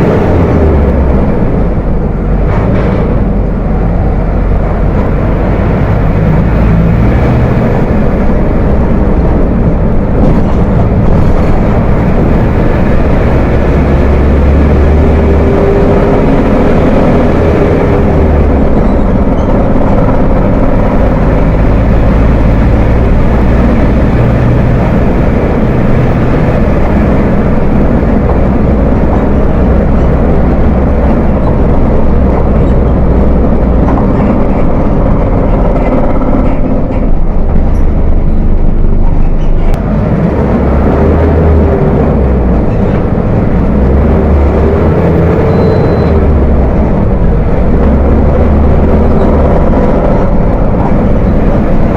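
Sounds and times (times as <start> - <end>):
diesel bus engine growling: 0.0 - 51.9.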